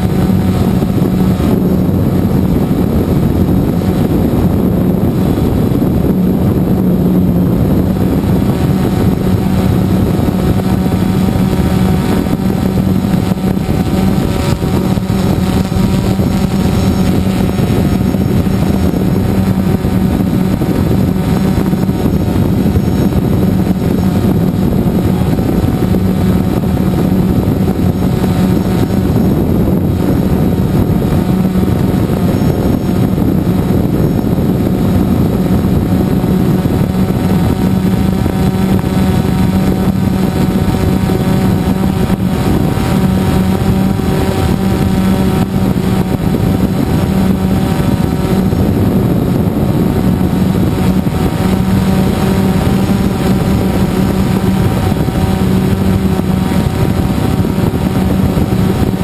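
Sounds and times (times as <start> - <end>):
drone motors humming: 0.0 - 59.0.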